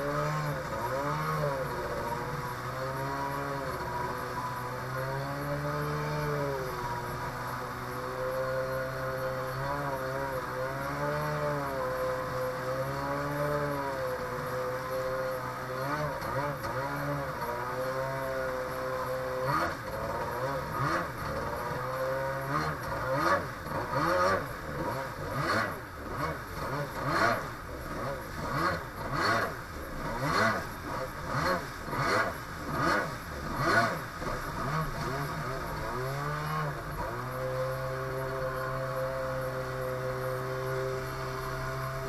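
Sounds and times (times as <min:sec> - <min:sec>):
jet ski engine running: 0:00.0 - 0:42.0.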